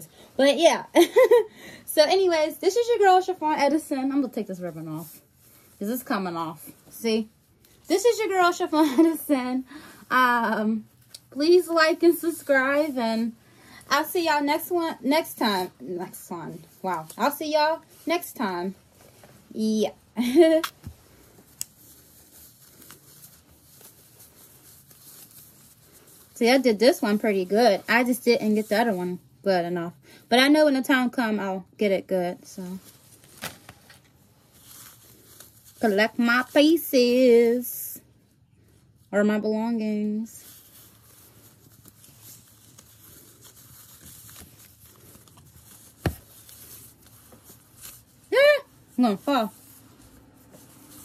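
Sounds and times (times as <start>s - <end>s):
rustling ribbon and fabric: 0.0s - 51.0s.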